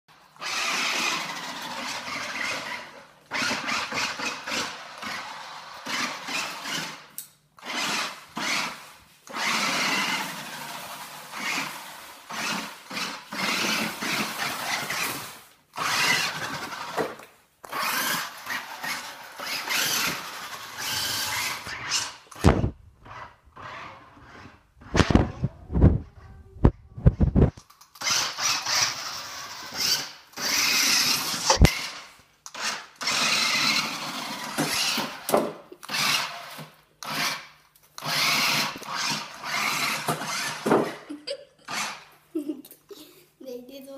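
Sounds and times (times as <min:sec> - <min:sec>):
toy truck motor whirring: 0:00.1 - 0:25.5, 0:27.2 - 0:42.1.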